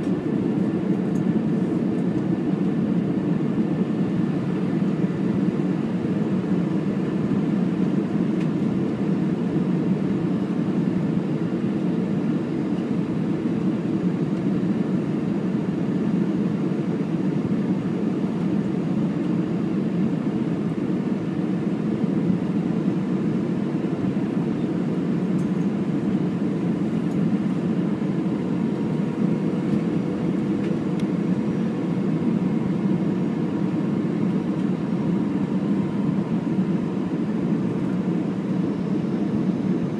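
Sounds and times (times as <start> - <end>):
aircraft engine and airflow rumble: 0.0 - 39.9.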